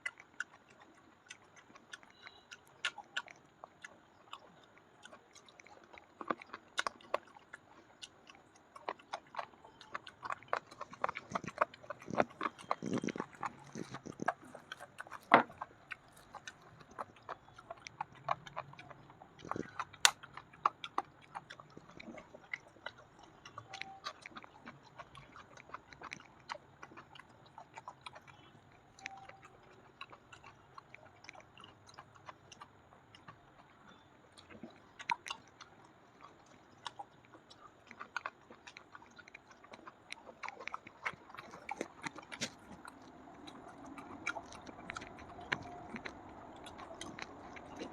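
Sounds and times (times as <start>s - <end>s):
person chewing close to microphone: 0.0s - 47.9s.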